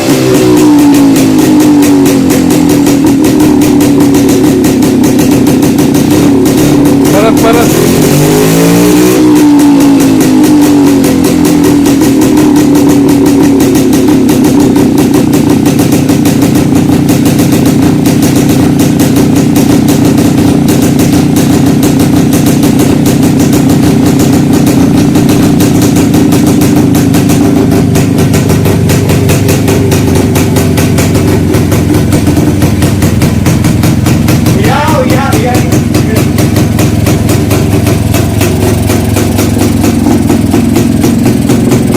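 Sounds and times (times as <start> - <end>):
two-stroke motorcycle engine idling: 0.0 - 41.9.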